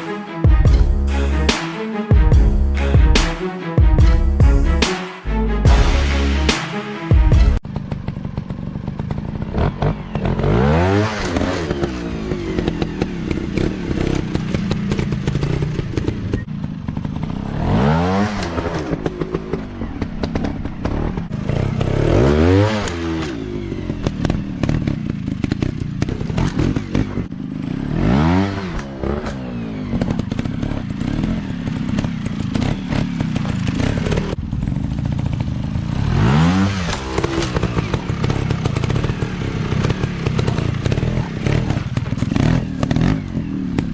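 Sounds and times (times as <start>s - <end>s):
dirt bike engines revving: 7.7s - 43.9s.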